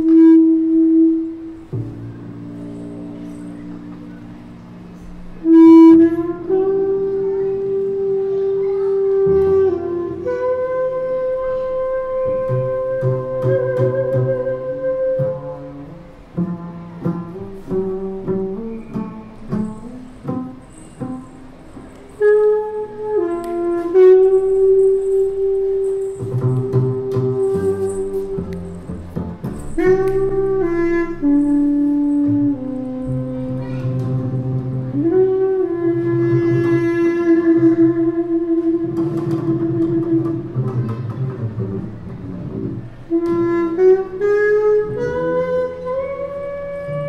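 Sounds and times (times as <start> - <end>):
double bass plucked notes: 0.0 - 47.0
held musical note: 0.0 - 47.0.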